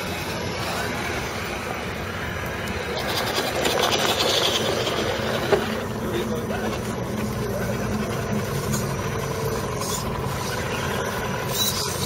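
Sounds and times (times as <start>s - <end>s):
rc truck drive whine: 0.0s - 12.0s.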